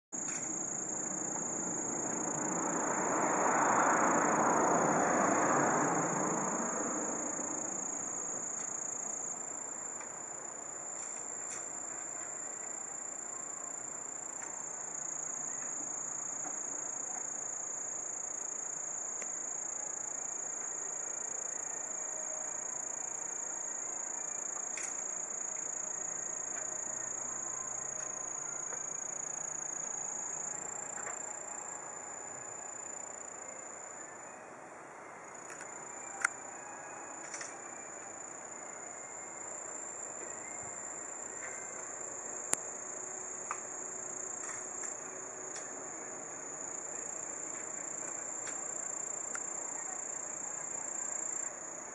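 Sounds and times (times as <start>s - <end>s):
insects trilling: 0.2s - 34.4s, 35.3s - 51.9s.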